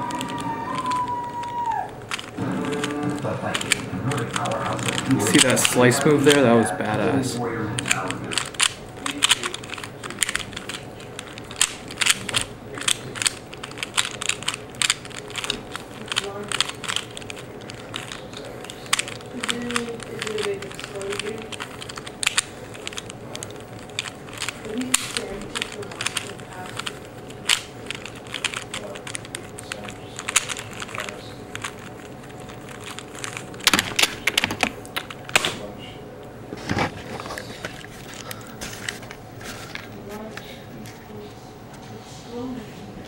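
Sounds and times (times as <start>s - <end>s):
puzzle cube layers clacking: 0.0s - 35.6s.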